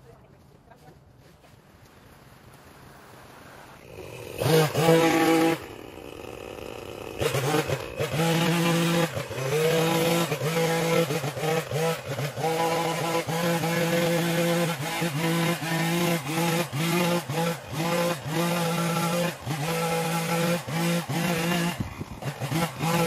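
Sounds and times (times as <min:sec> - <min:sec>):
small gasoline engine revving: 0:03.4 - 0:23.0.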